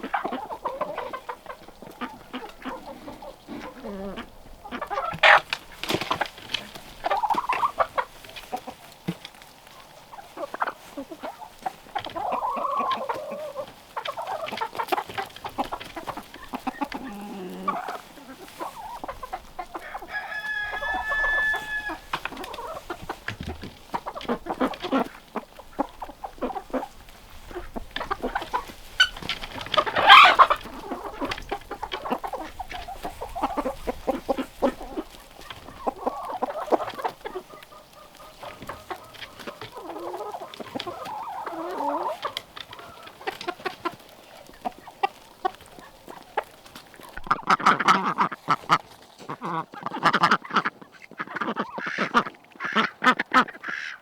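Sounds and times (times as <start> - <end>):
chickens clucking: 0.0 - 54.0
drawn-out chicken call: 0.0 - 54.0.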